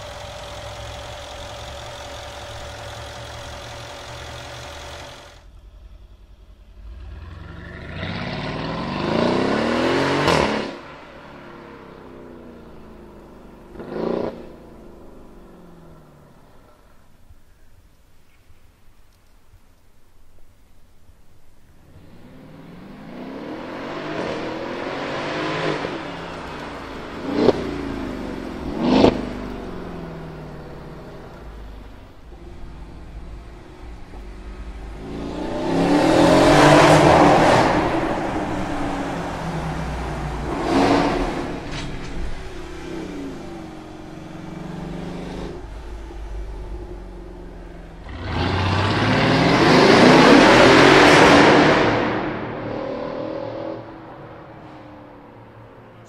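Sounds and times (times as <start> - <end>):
car engine revving: 0.0 - 16.8, 22.0 - 54.6.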